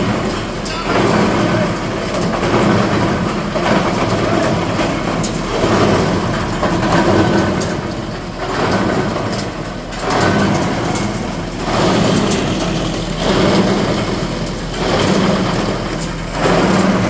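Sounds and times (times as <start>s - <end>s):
waste grinder running: 0.0s - 17.0s.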